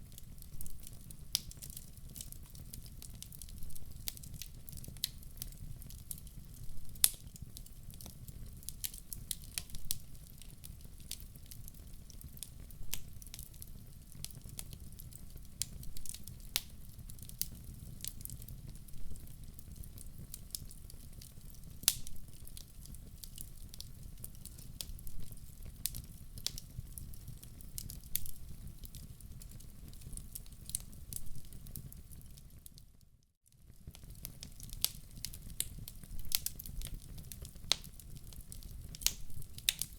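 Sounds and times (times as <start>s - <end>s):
low rumble of flames: 0.0s - 32.6s, 33.7s - 39.9s
fire popping and snapping: 0.0s - 39.9s
wood fire crackling: 0.0s - 39.9s.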